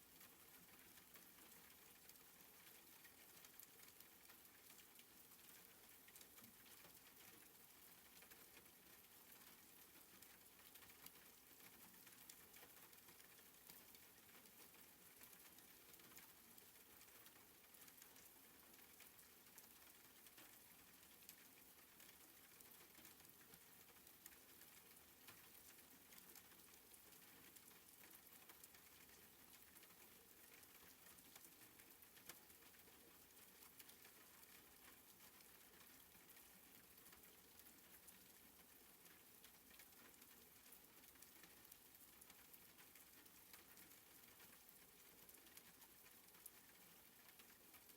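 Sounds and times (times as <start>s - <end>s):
raindrop patters: 0.0s - 47.9s
soft rain hiss: 0.0s - 47.9s.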